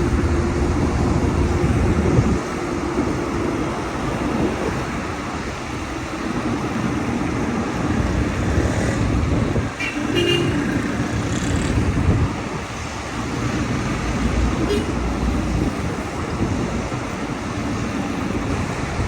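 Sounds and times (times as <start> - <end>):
car engine and road rumble: 0.0 - 19.0
other traffic: 0.0 - 19.0.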